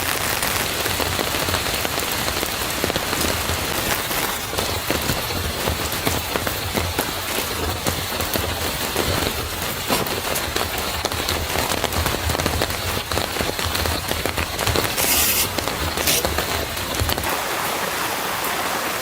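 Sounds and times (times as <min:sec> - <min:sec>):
steady rain patter: 0:00.0 - 0:19.0.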